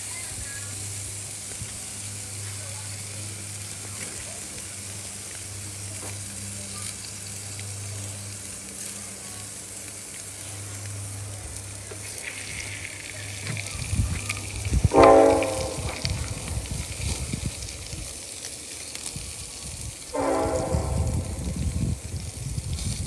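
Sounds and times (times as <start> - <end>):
food sizzling in oil: 0.0 - 23.0
low hum: 0.4 - 18.5, 20.0 - 22.6.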